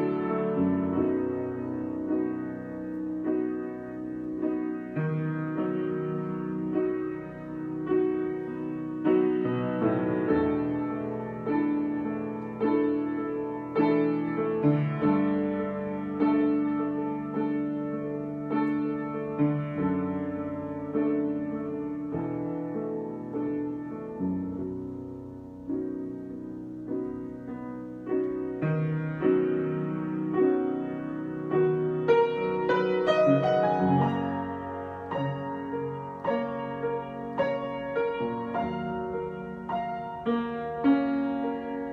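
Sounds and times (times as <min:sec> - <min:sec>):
solo piano: 0:00.0 - 0:41.9.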